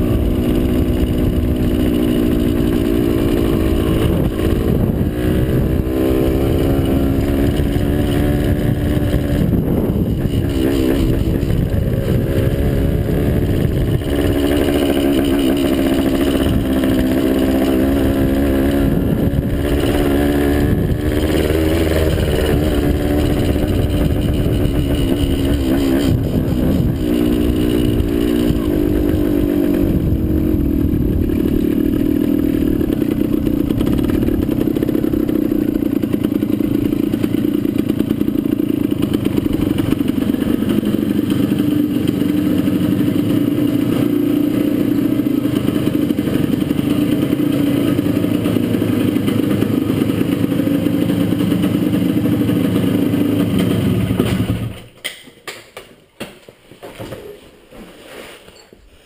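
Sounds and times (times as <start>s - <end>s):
two-stroke engine running: 0.0s - 55.0s.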